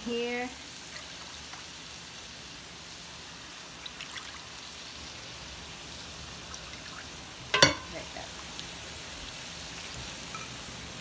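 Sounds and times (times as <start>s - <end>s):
vegetables sizzling in wok: 0.0s - 11.0s.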